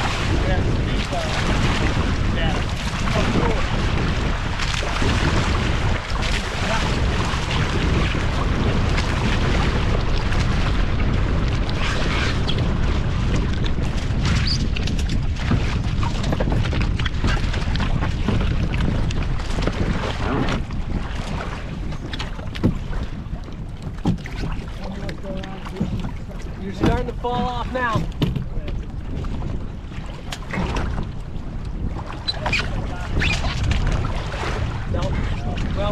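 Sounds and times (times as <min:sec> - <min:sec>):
water splashing against hulls: 0:00.0 - 0:35.9
wind buffeting microphone: 0:00.0 - 0:35.9.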